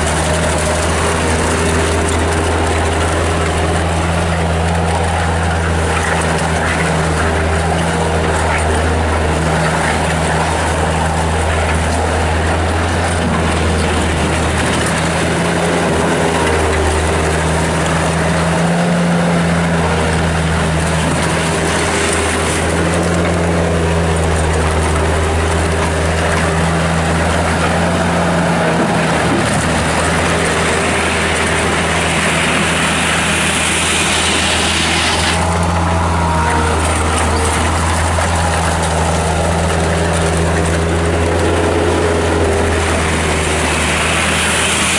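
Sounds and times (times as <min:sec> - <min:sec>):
loader diesel engine running: 0:00.0 - 0:44.9.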